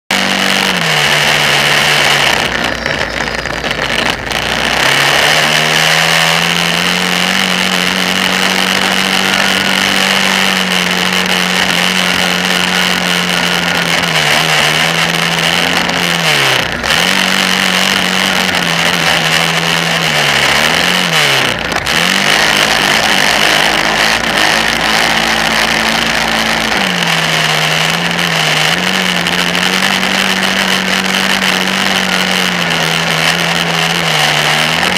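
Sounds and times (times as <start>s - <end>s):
quad engine revving: 0.0s - 34.9s.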